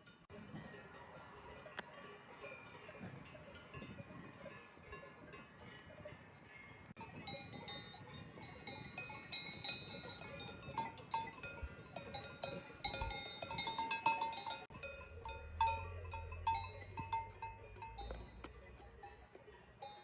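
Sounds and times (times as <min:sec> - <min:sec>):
cowbells clanking: 0:00.0 - 0:20.0.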